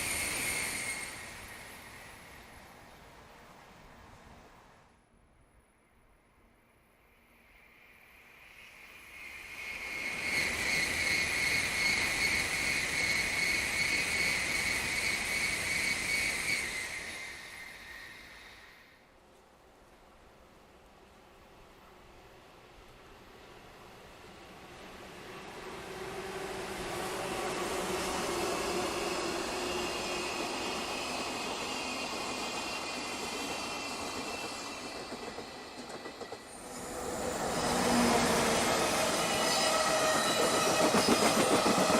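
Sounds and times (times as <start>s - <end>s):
train wheels on rails: 0.0s - 4.6s, 7.5s - 41.9s.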